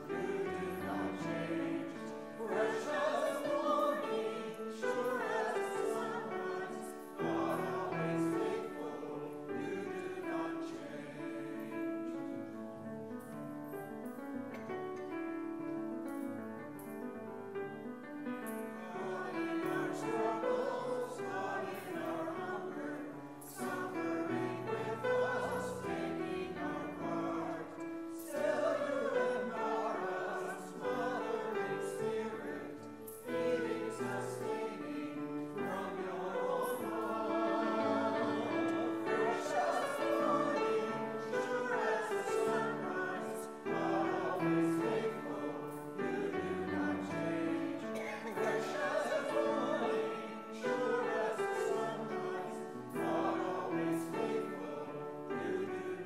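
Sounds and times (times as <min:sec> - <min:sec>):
congregation singing a hymn: 0:00.0 - 0:56.0
keyboard accompaniment: 0:00.0 - 0:56.0.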